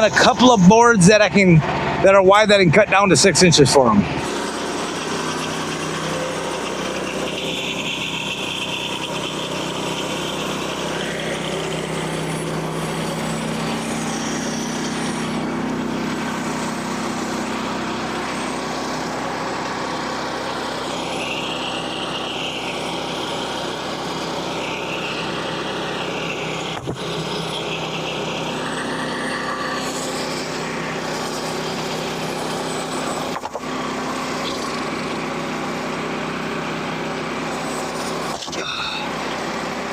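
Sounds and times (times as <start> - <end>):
small gasoline engine running: 0.0 - 39.9
wavering high whine: 0.0 - 39.9
band saw blade cutting wood: 4.1 - 35.9, 37.4 - 39.6.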